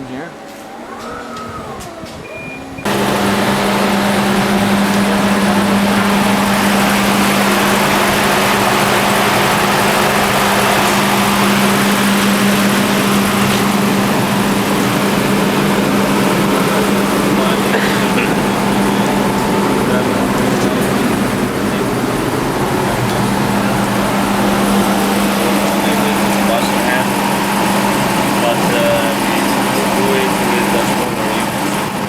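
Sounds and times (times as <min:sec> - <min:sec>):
low machinery hum: 0:00.0 - 0:32.0
machinery hiss: 0:02.9 - 0:32.0.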